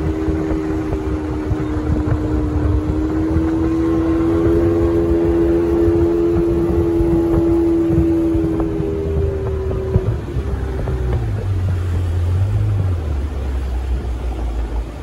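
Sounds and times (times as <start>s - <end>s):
low rumble: 0.0s - 15.0s
outboard motor droning: 0.0s - 15.0s.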